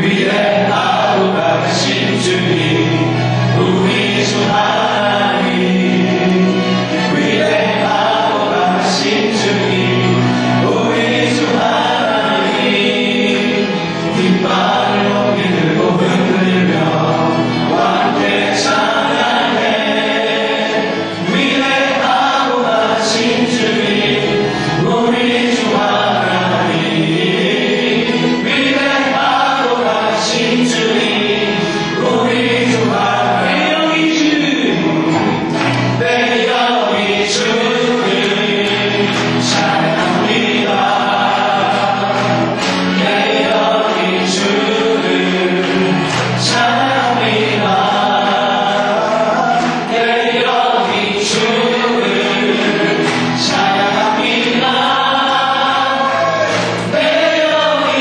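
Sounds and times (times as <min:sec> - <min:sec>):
choir singing worship song: 0:00.0 - 0:58.0
musical accompaniment: 0:00.0 - 0:58.0.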